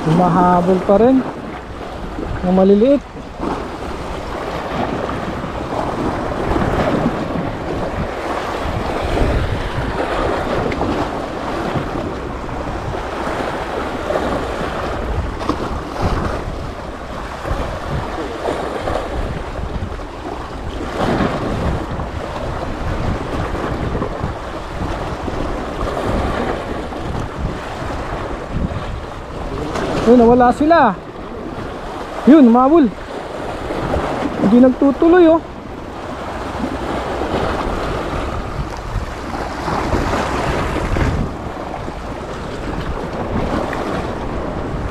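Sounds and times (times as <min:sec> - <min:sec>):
sea waves washing: 0:00.0 - 0:44.9
wind gusting on microphone: 0:00.0 - 0:44.9.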